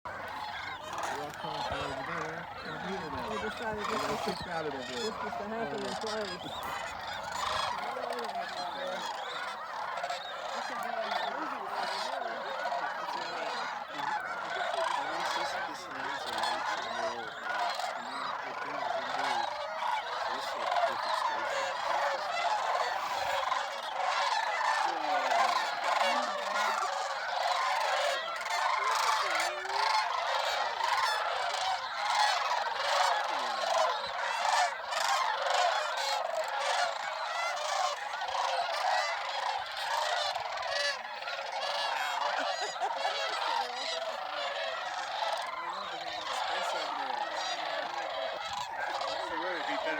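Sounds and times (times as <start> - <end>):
flock of geese and cranes calling: 0.1 - 49.9.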